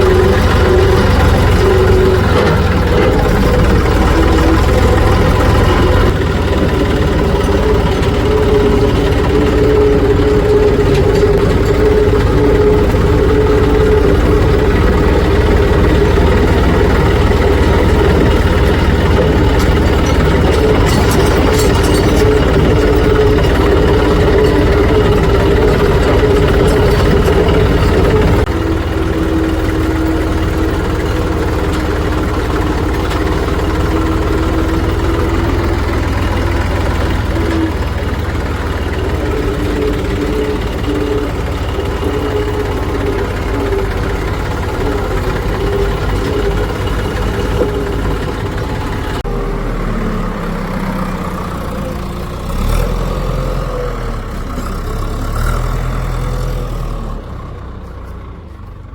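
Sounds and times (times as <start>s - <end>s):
heavy diesel engines running: 0.0s - 58.9s.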